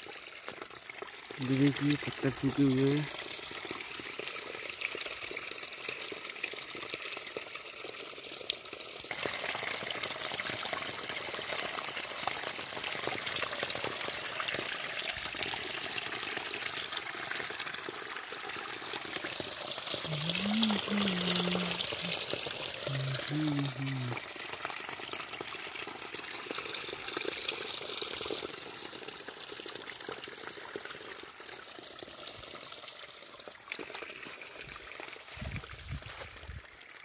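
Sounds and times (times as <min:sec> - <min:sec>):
water gushing onto stones: 0:00.0 - 0:37.0.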